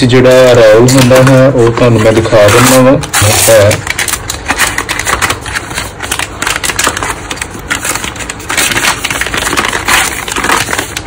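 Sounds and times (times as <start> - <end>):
foil bag crinkling: 1.0 - 11.0.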